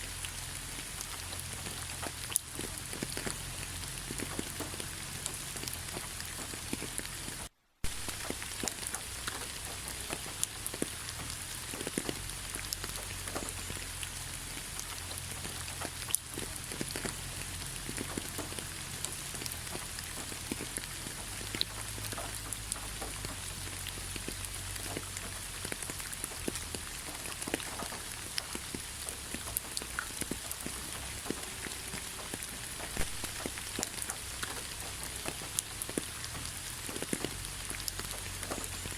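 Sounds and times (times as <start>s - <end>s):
raindrops striking close by: 0.0s - 38.9s
steady rain falling: 0.0s - 38.9s.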